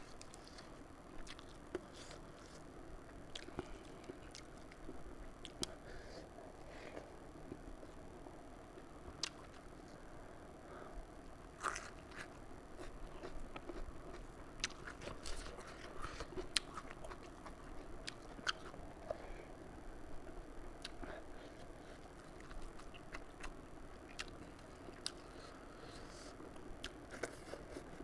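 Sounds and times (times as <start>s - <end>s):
person chewing food: 0.0s - 8.0s, 11.6s - 19.4s, 20.8s - 28.0s.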